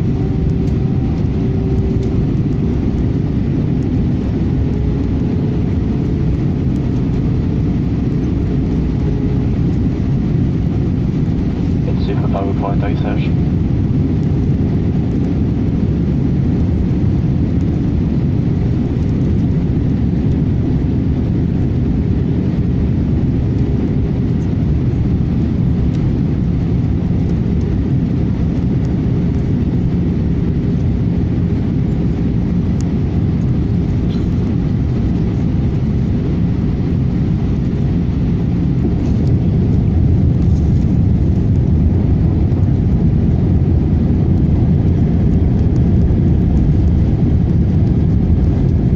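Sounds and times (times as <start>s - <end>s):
airliner jet engines rumbling: 0.0s - 48.9s.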